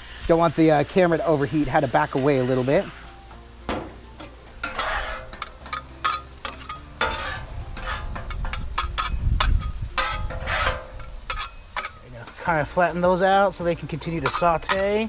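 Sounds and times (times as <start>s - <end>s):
food sizzling on griddle: 0.0s - 15.0s
metal spatulas scraping griddle: 1.2s - 3.1s, 3.7s - 13.2s, 13.9s - 15.0s.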